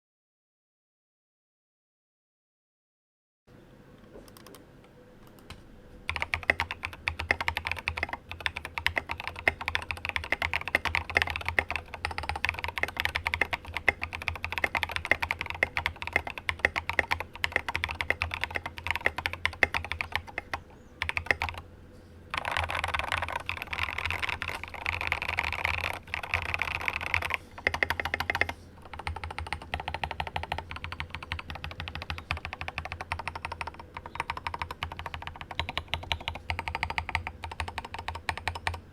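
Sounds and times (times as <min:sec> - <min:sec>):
typing on mechanical keyboard: 0:06.1 - 0:21.6, 0:22.3 - 0:38.8.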